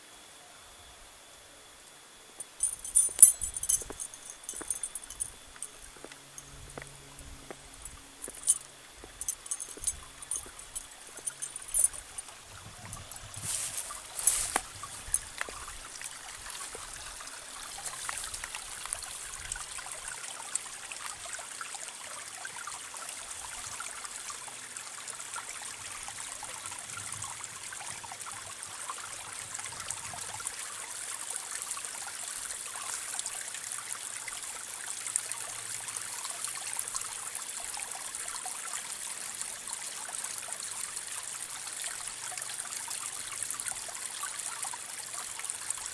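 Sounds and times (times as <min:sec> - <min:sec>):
water trickling in a ditch: 0:02.4 - 0:45.9.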